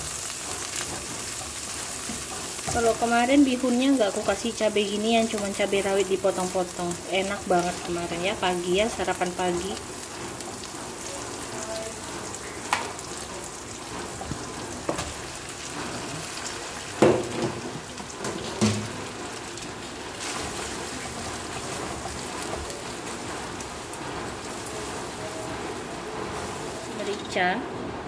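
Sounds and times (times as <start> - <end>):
food sizzling in wok: 0.0 - 27.7.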